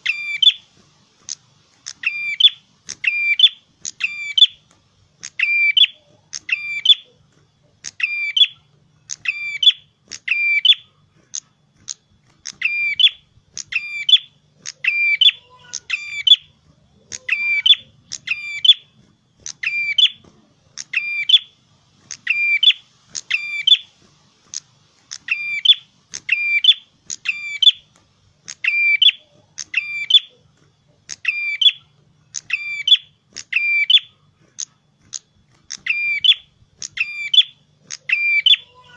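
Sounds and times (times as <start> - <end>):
bird chirping shrilly: 0.0 - 0.7, 1.8 - 4.6, 5.2 - 7.2, 7.8 - 10.9, 12.4 - 16.5, 17.1 - 20.2, 20.8 - 30.4, 31.1 - 34.2, 35.7 - 38.9.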